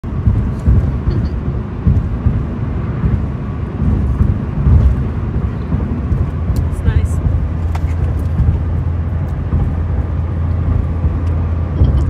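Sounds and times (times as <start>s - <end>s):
car cabin rumble: 0.0s - 12.0s
road noise: 0.0s - 12.0s.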